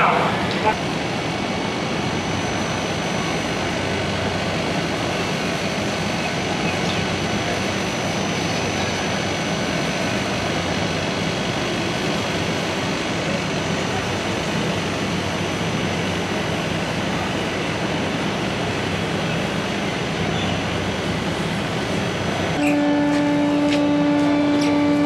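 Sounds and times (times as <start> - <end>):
locomotive mechanical drone: 0.0 - 25.0.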